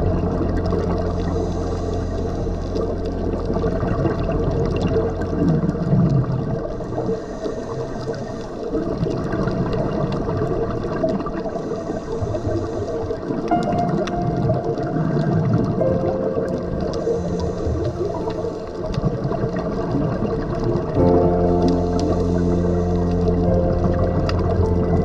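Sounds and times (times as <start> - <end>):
gurgling exhaled bubbles: 0.0 - 25.0
muffled underwater rumble: 0.0 - 25.0.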